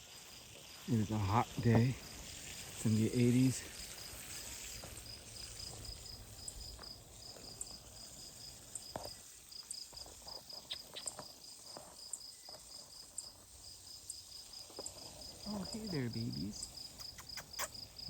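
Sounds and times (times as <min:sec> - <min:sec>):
cricket chirping: 0:00.0 - 0:18.0.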